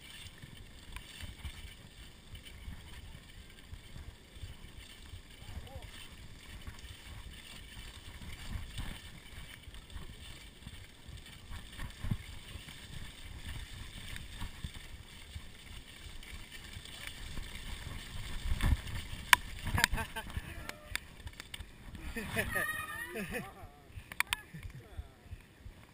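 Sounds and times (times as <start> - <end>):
wind rumbling on microphone: 0.0 - 25.9.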